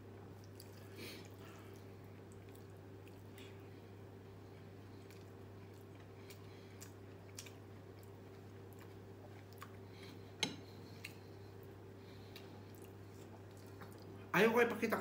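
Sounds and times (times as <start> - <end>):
steady low hum: 0.0 - 15.0
person chewing: 0.2 - 3.7, 4.5 - 14.2.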